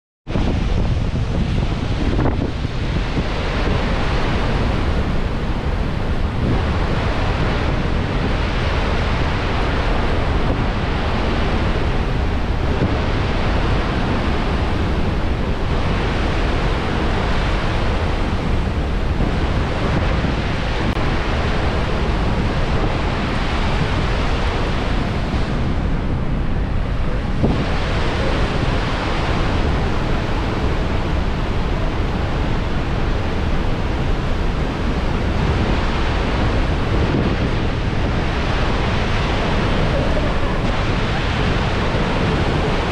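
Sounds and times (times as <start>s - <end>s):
waterfall rushing: 0.4s - 42.9s.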